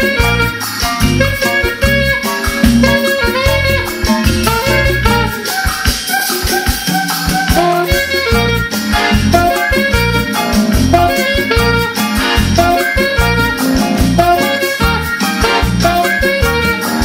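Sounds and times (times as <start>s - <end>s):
bass: 0.0s - 17.0s
percussion with steady beat: 0.0s - 17.0s
saxophone melody: 0.0s - 17.0s.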